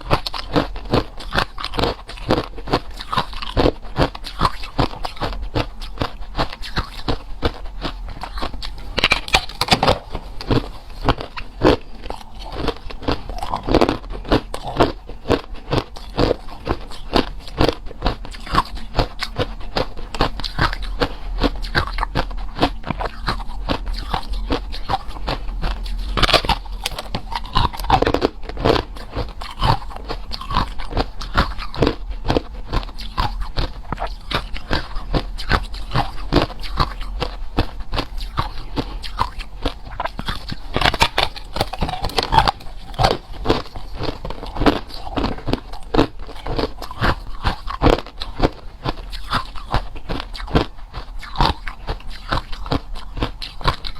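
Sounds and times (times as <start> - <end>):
chewing and crunching ice: 0.0 - 53.9.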